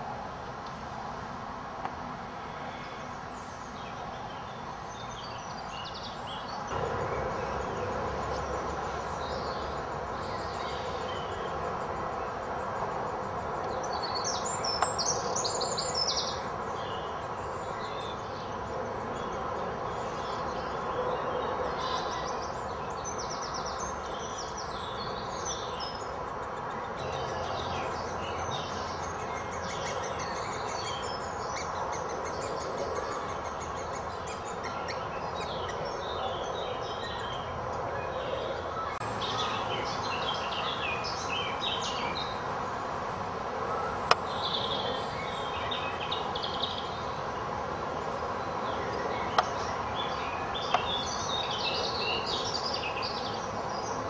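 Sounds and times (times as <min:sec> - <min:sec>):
steady background hiss: 0:00.0 - 0:54.0
small birds chirping: 0:02.4 - 0:42.5, 0:48.2 - 0:54.0.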